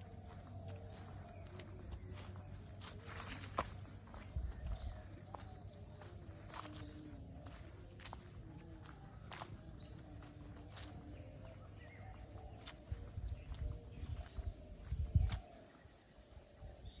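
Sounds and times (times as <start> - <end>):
crickets and insects chorus: 0.0 - 17.0.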